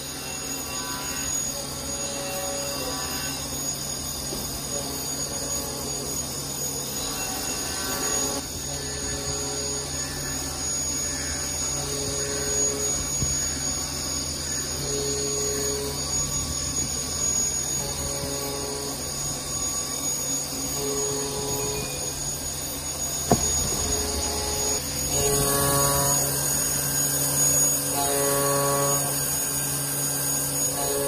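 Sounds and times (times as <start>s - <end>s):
machine hum and hiss: 0.0s - 31.0s.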